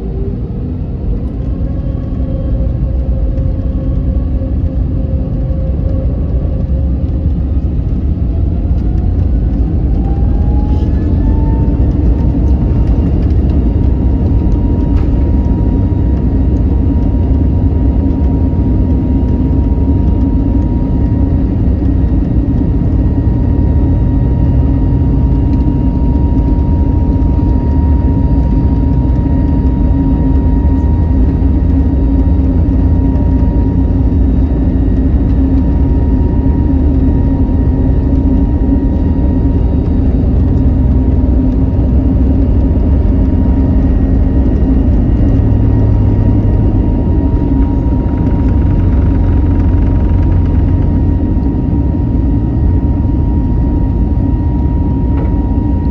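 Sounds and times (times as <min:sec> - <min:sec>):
jet engine rumble: 0:00.0 - 0:55.9
jet engines whining: 0:00.0 - 0:55.9.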